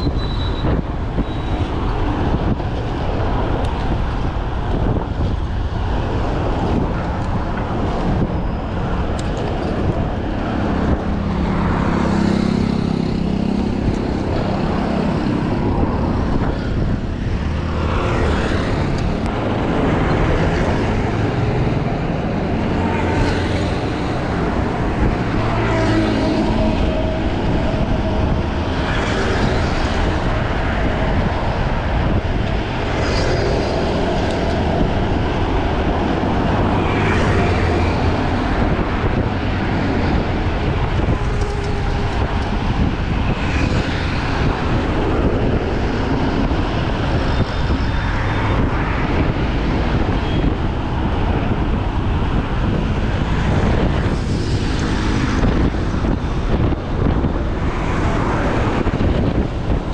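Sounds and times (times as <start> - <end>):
highway traffic: 0.0 - 59.9
wind on microphone: 0.0 - 59.9.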